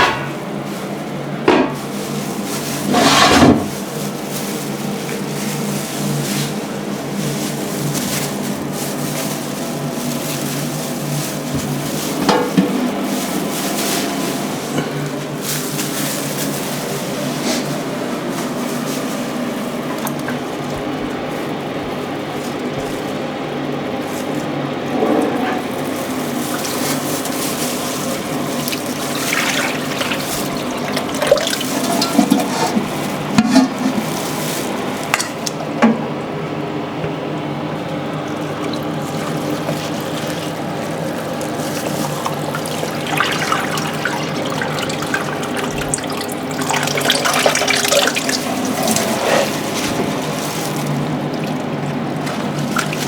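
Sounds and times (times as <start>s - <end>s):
water running: 0.8s - 35.9s, 37.1s - 53.0s.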